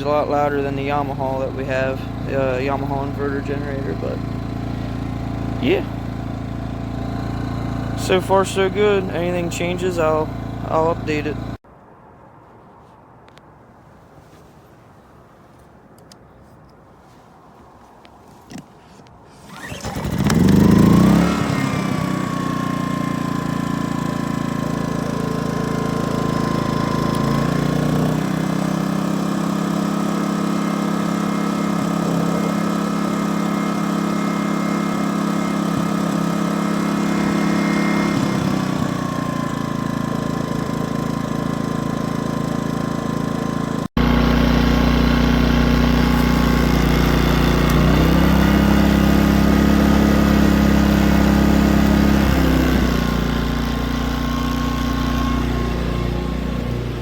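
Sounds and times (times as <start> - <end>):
generator engine running: 0.0 - 11.6, 19.4 - 57.0.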